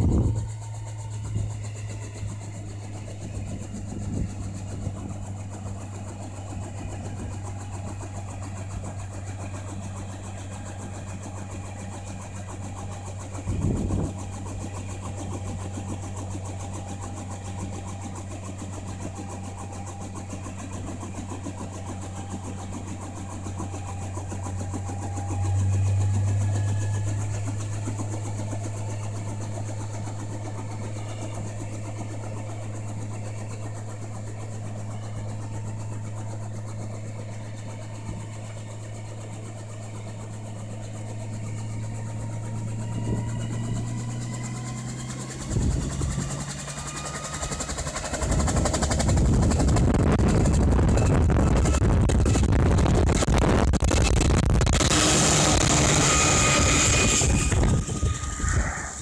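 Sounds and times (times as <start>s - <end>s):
helicopter engine idling: 0.0s - 59.0s.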